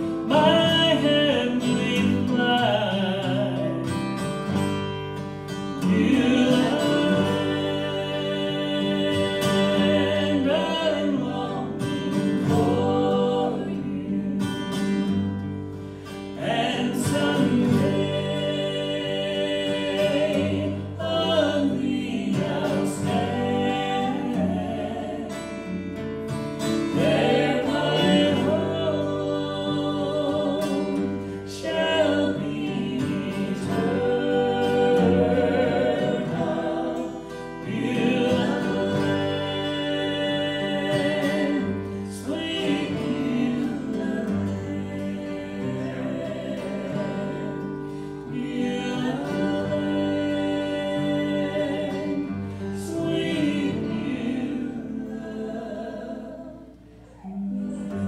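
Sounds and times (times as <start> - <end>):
strummed acoustic guitar: 0.0 - 58.0
vocal quartet singing in harmony: 0.0 - 58.0.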